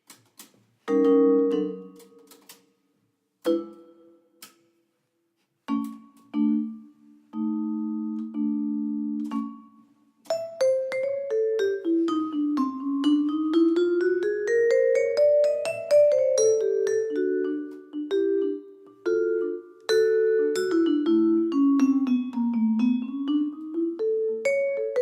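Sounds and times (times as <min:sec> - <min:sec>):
jazz vibraphone solo: 0:00.9 - 0:02.2, 0:05.7 - 0:25.0.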